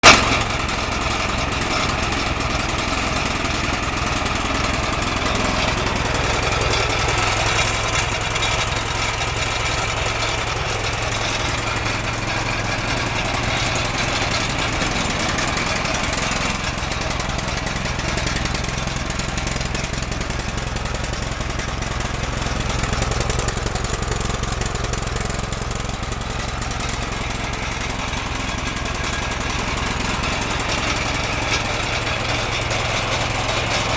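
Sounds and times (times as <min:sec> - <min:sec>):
concrete saw engine running: 0:00.0 - 0:33.9.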